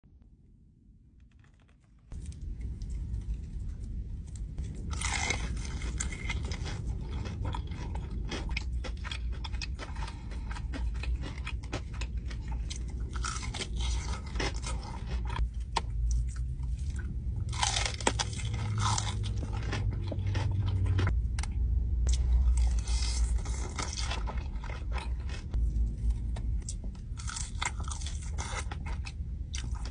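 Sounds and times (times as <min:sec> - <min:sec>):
steady low rumble: 0:00.0 - 0:29.9
crunchy chewing: 0:01.4 - 0:21.5, 0:22.1 - 0:29.9.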